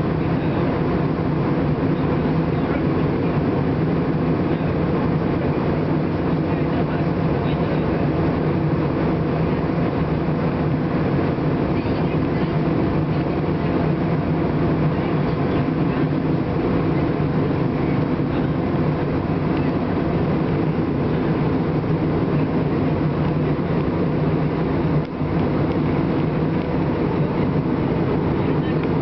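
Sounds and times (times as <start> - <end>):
jet airliner cabin noise: 0.0 - 29.0.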